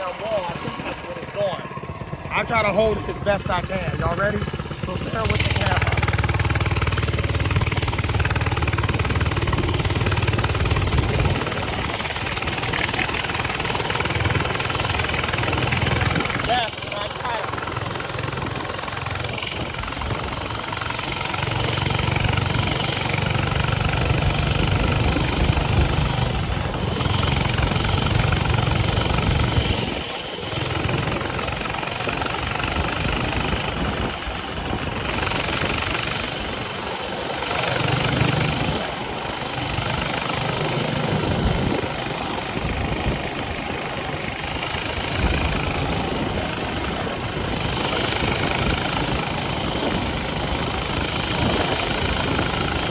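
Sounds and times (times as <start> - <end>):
mini bike engine running: 0.0 - 52.9.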